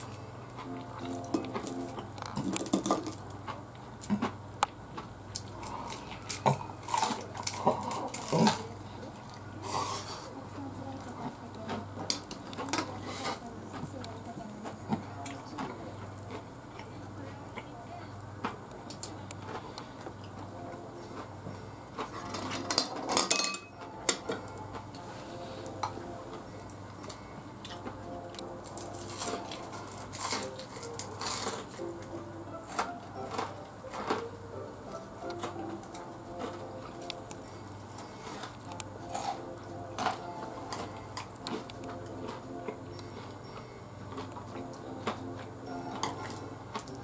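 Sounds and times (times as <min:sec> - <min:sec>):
person chewing food: 0:00.0 - 0:10.3, 0:14.9 - 0:22.7, 0:23.7 - 0:47.0
low steady hum: 0:00.0 - 0:47.0.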